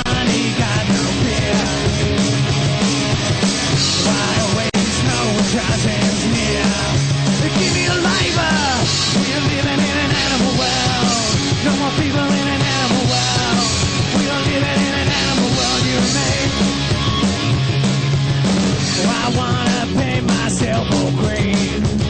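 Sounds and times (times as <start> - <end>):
punk rock band playing: 0.0 - 22.0.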